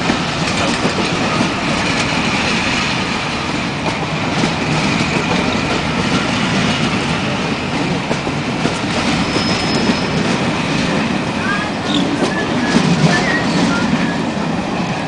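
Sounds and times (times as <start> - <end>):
train wheels clattering over rail joints: 0.0 - 13.8
train steady rumble: 0.0 - 15.0.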